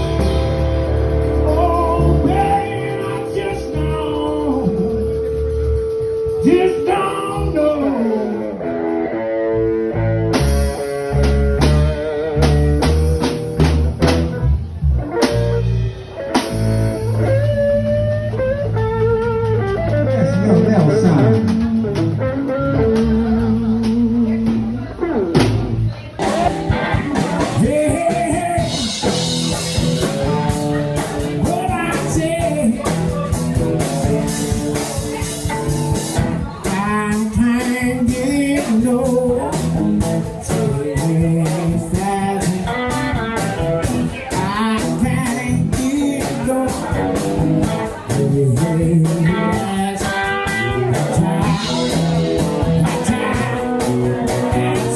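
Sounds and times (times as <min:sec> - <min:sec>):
blues band playing: 0:00.0 - 0:54.9
electric guitar lines: 0:00.0 - 0:54.9.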